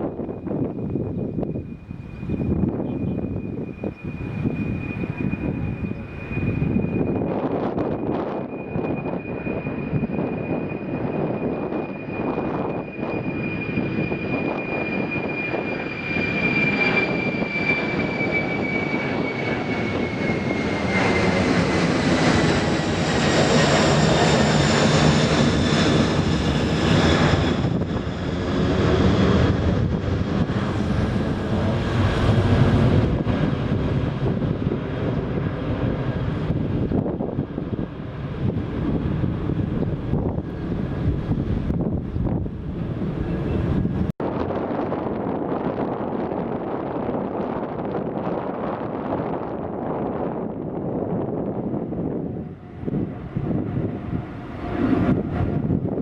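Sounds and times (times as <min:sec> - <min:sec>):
jet engine fan whine: 0:00.0 - 0:56.0
jet engine rush: 0:00.0 - 0:56.0.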